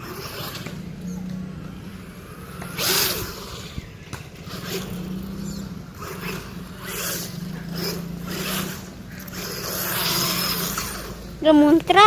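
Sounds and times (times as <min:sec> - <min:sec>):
rc truck motor humming: 0:00.0 - 0:12.0.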